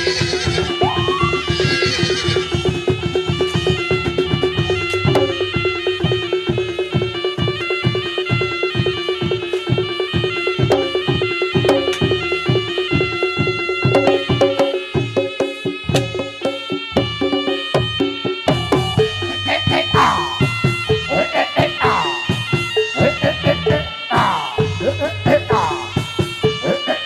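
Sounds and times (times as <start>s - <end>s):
even drumbeat: 0.0s - 27.0s
metallic percussion strikes: 0.0s - 27.0s
shrill reed trumpet: 0.0s - 27.0s.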